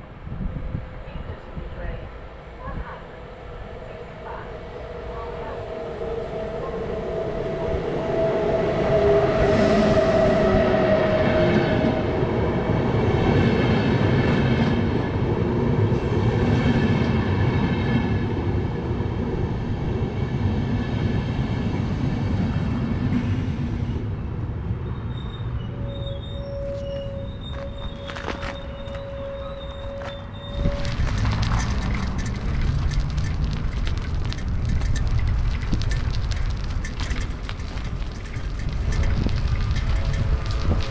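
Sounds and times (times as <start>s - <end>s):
electric locomotive whine: 0.0s - 33.0s, 33.8s - 40.9s
train wheels rumbling on rails: 0.0s - 40.9s.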